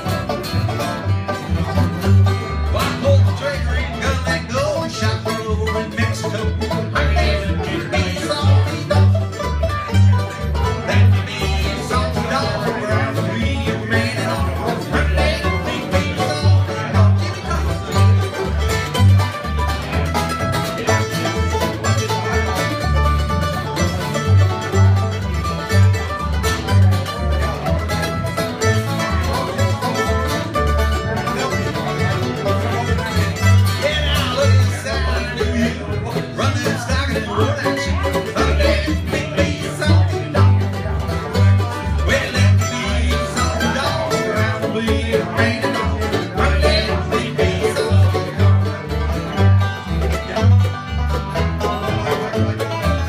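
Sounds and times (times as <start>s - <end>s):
bluegrass band playing: 0.0s - 53.0s
upright bass notes pulsing: 0.0s - 53.0s.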